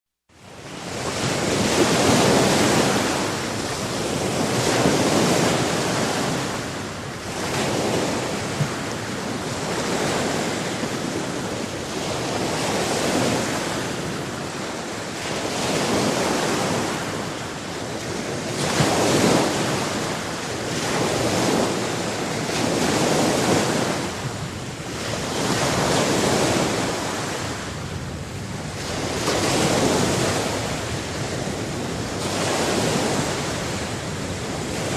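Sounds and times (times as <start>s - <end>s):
ocean waves breaking: 0.4s - 34.9s.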